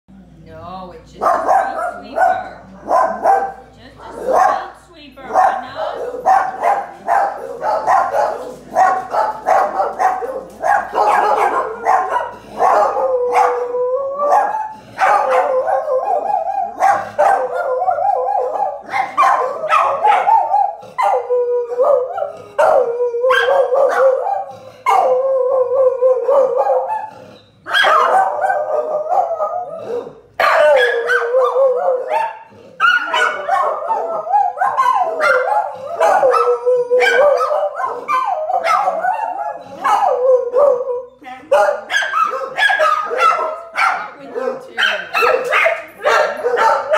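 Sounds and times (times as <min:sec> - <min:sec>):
dogs barking: 0:01.1 - 0:46.9
dogs howling: 0:01.2 - 0:04.7, 0:05.3 - 0:46.9.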